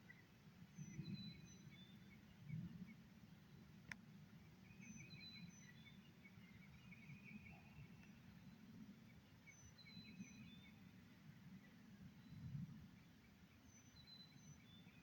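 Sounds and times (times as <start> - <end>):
distant songbirds chirping: 0.0 - 15.0.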